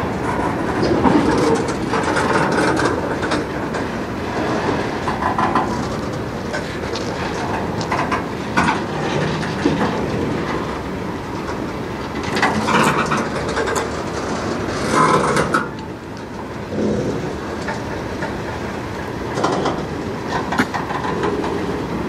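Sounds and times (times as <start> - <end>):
train cars clanking and rattling: 0.0 - 22.0
train wheels rumbling on rail: 0.0 - 22.0.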